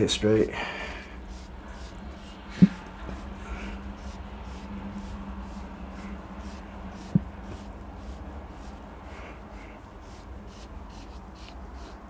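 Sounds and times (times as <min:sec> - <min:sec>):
comb scratching through hair: 0:01.0 - 0:12.0.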